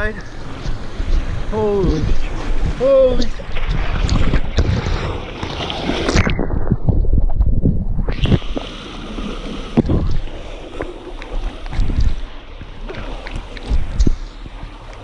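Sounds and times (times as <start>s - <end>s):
whitewater rushing and splashing: 0.0s - 6.3s, 8.1s - 15.0s.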